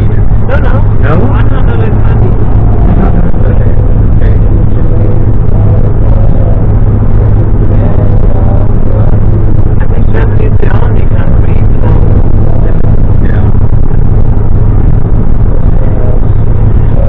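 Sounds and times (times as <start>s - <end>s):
car engine and road noise drone: 0.0s - 17.0s.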